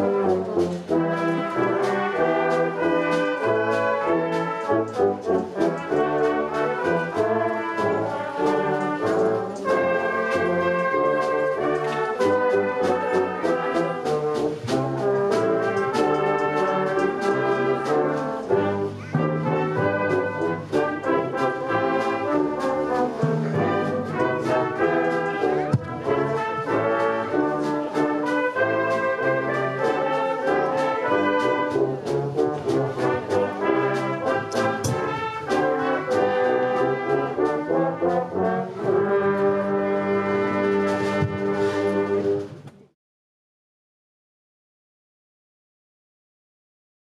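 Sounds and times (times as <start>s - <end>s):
brass ensemble music: 0.0s - 42.8s.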